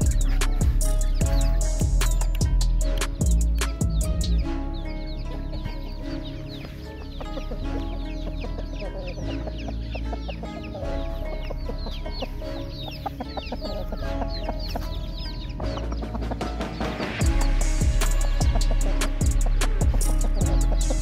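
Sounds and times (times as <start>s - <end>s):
background music: 0.0s - 21.0s
chickens clucking and peeping: 0.0s - 21.0s.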